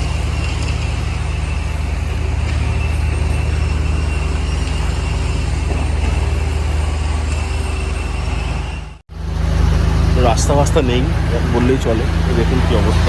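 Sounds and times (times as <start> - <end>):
road noise on rough road: 0.0 - 13.0
vehicle engine running: 0.0 - 13.0.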